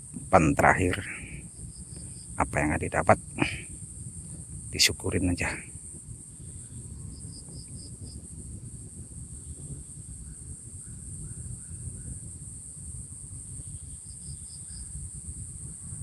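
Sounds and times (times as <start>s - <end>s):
low rumble: 0.0s - 13.6s
high-pitched insect drone: 0.0s - 16.0s.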